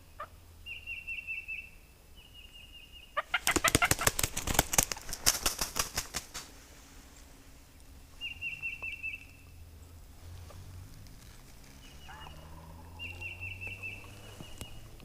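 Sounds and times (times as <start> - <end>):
turkey rattling calls: 0.0 - 6.4, 7.8 - 15.0
low steady hum: 0.0 - 15.0.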